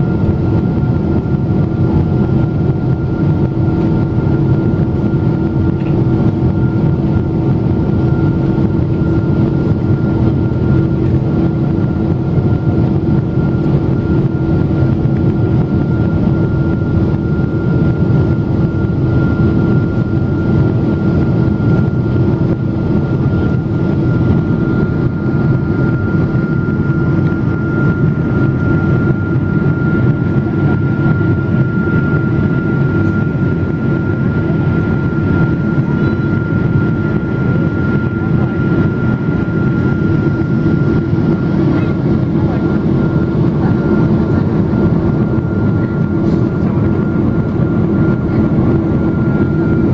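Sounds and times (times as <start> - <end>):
high whine: 0.0 - 49.9
jet engines roaring in cabin: 0.0 - 49.9.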